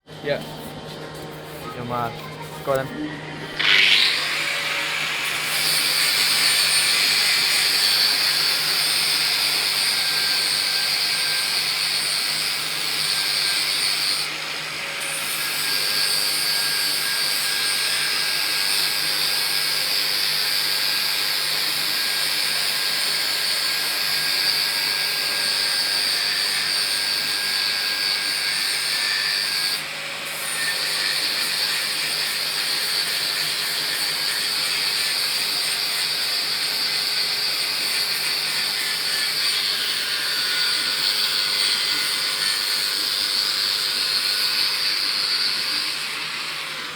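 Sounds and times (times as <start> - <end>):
power grinder grinding: 0.3 - 46.9.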